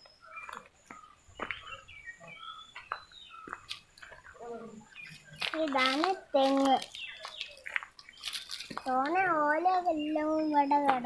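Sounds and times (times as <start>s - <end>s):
small birds chirping: 0.0s - 11.0s
footsteps on dry fronds and stones: 0.3s - 11.0s.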